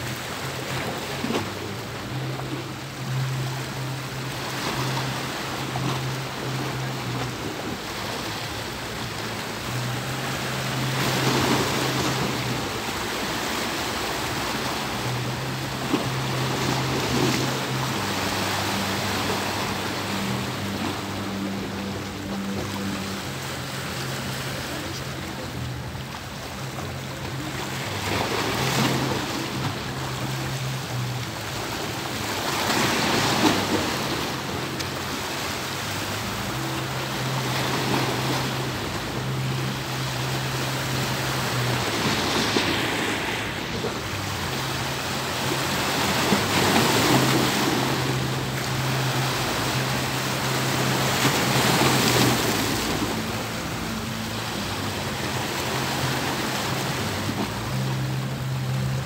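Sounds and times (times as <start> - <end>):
gentle sea waves: 0.0 - 59.0
low steady hum: 0.0 - 59.0.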